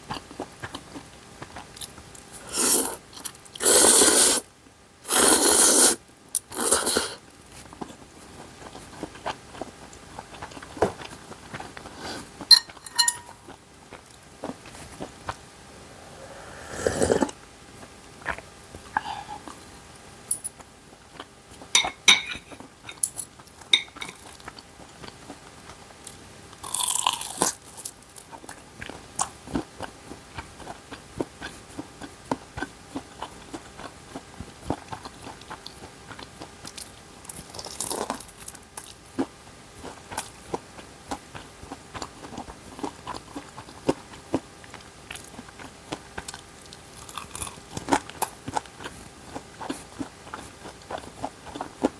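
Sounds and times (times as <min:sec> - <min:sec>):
person chewing wetly: 0:00.0 - 0:04.4, 0:05.1 - 0:15.5, 0:16.9 - 0:19.8, 0:20.6 - 0:51.9.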